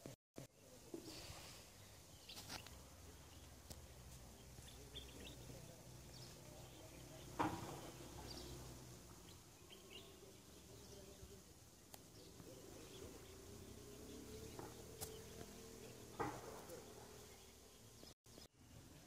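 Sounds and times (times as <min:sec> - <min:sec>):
distant bird chirps: 0:00.6 - 0:19.0.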